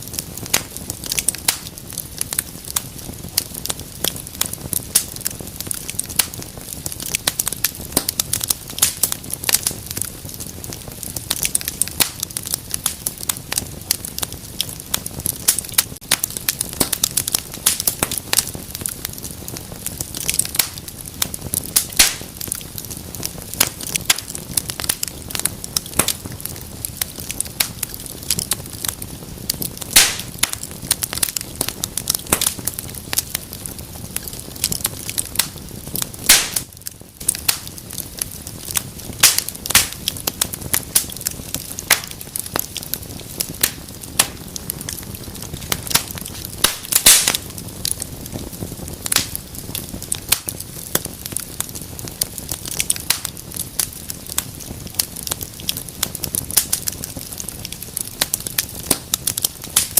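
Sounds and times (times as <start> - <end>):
low rumble of flame: 0.0 - 59.9
wood fire crackling: 0.0 - 59.9.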